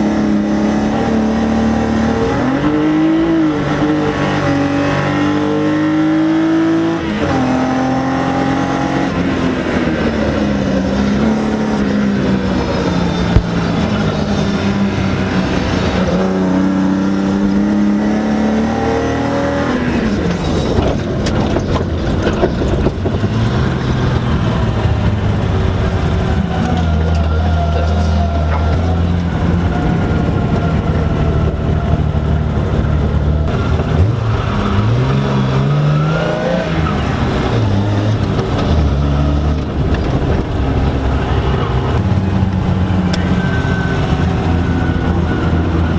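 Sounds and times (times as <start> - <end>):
rally car engine revving: 0.0 - 45.9.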